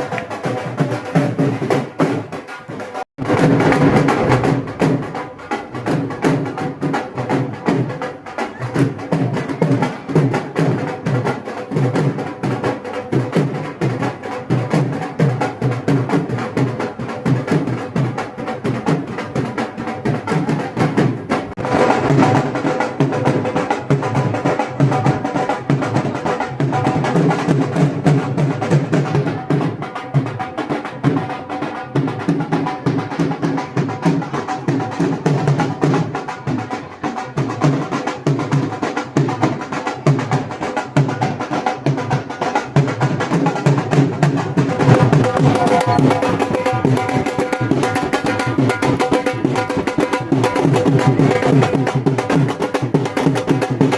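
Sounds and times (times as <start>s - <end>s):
drums beating fast rhythm: 0.0s - 53.9s.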